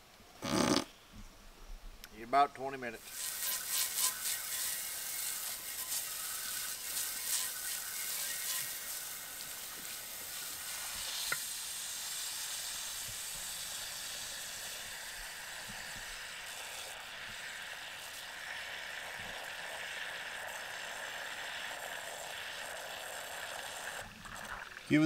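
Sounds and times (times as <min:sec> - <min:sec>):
hose nozzle spraying water: 0:03.0 - 0:25.0.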